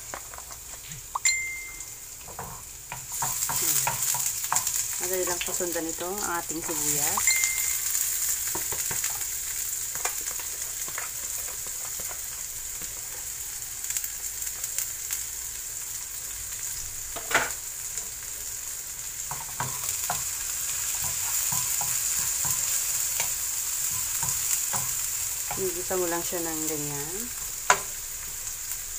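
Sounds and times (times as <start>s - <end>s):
onions sizzling in hot oil: 0.0s - 28.9s.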